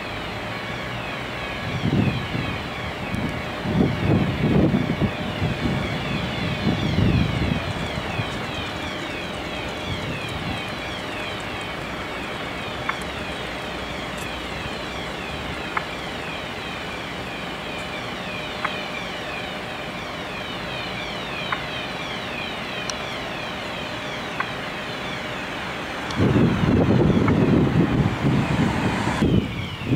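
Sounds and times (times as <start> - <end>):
fire engine diesel engines running: 0.0 - 29.9.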